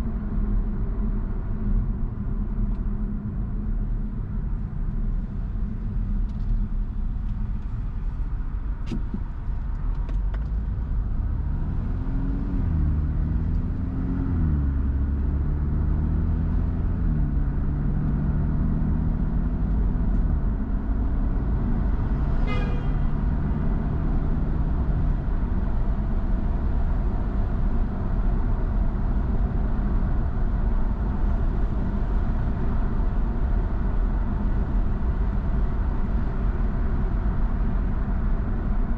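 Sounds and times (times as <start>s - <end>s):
road noise: 0.0s - 38.9s
car engine accelerating: 5.0s - 38.9s.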